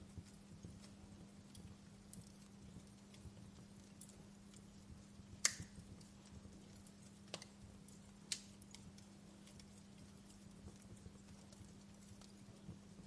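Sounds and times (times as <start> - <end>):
faint low hum: 0.0 - 13.0
wood fire crackling: 0.0 - 13.0.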